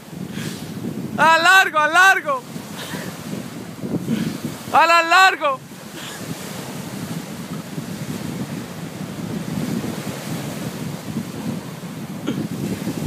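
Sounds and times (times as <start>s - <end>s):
small waves breaking on shore: 0.0s - 13.0s
wind buffeting microphone: 0.0s - 13.0s.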